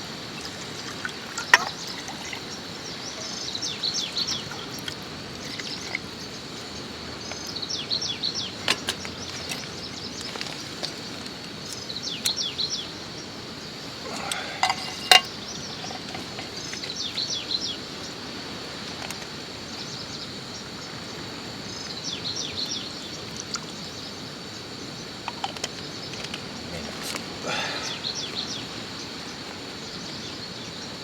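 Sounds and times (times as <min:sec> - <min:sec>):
background hiss: 0:00.0 - 0:31.0
high insect whine: 0:00.0 - 0:31.0
small birds chirping: 0:00.0 - 0:31.0.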